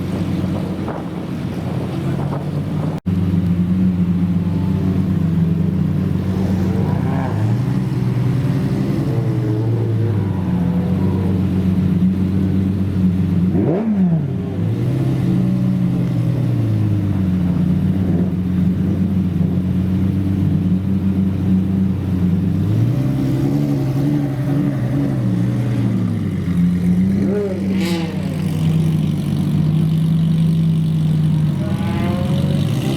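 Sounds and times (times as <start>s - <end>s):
car engine idling: 0.0s - 13.6s, 15.4s - 32.9s.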